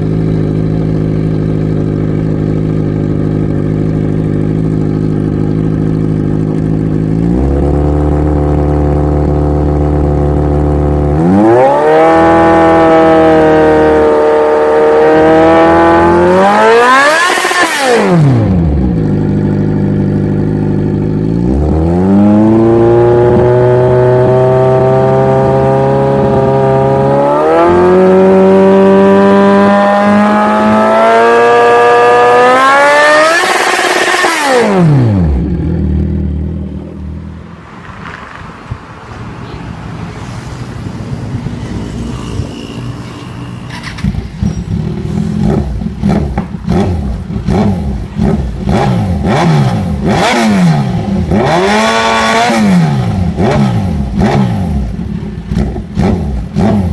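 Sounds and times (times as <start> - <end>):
motorcycle accelerating and passing: 0.0 - 56.9.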